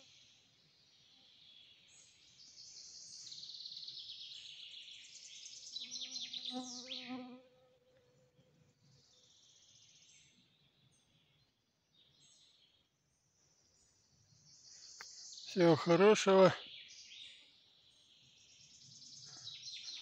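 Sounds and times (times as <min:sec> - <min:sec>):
songbirds singing: 0:00.0 - 0:07.4, 0:08.4 - 0:20.0.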